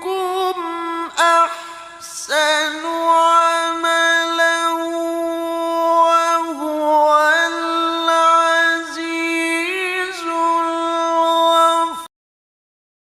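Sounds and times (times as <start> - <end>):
person reciting melodically: 0.0 - 12.1.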